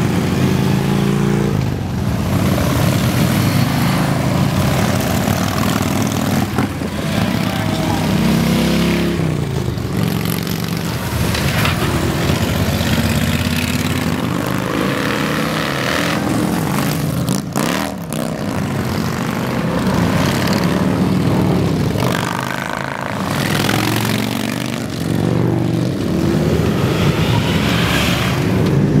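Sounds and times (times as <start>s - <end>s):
motorcycles rumbling past: 0.0s - 29.0s.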